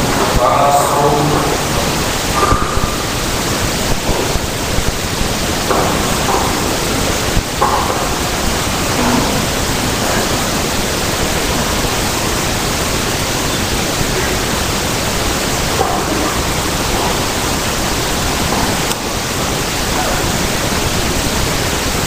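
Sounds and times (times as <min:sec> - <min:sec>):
loud static hiss: 0:00.0 - 0:22.0.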